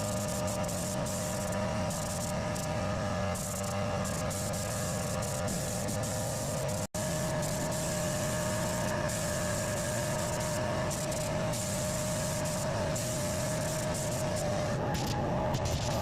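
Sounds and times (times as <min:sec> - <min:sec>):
spray-painting equipment hissing: 0:00.0 - 0:16.0.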